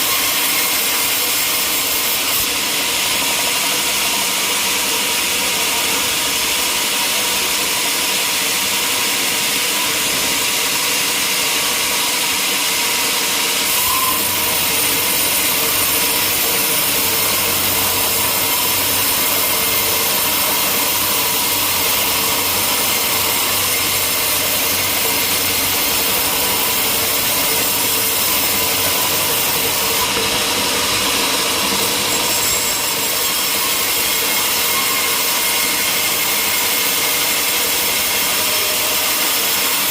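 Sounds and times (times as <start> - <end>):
powered saw cutting timber: 0.0 - 39.9.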